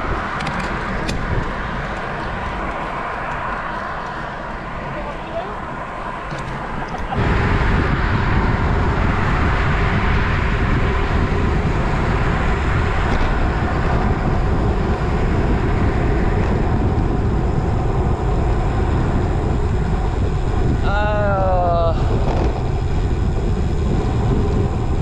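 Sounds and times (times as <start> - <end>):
wind and road noise: 0.0 - 25.0
wind buffeting microphone: 0.0 - 25.0.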